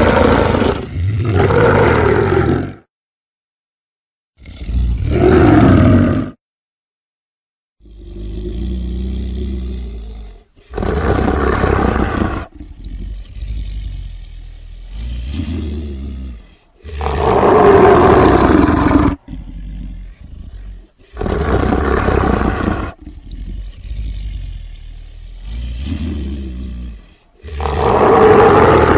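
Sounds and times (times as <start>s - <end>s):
monster snarling growls and roars: 0.0s - 2.9s, 4.4s - 6.4s, 7.8s - 28.9s.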